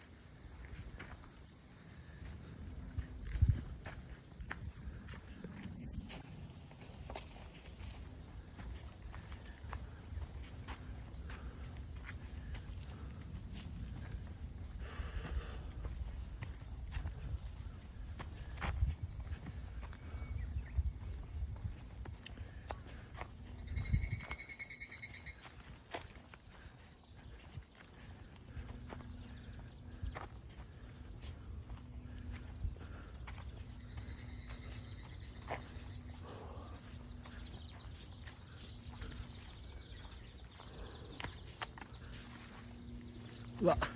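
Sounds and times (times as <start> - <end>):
footsteps crunching on trail: 0.0 - 43.9
insects droning: 0.0 - 43.9.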